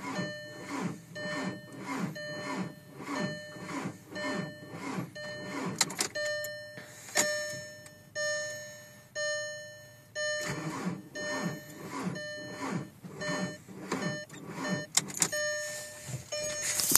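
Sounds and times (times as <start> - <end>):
starter cranking diesel engine: 0.0 - 7.7, 10.1 - 16.9
car warning chime dinging: 0.0 - 16.9.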